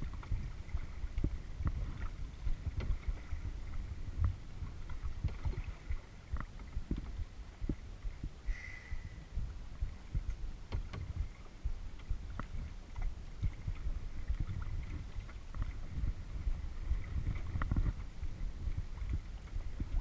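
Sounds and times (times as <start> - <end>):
paddle splashes and drips: 0.0 - 8.8, 9.7 - 20.0
low microphone rumble: 0.0 - 20.0
water lapping at hull: 0.0 - 20.0.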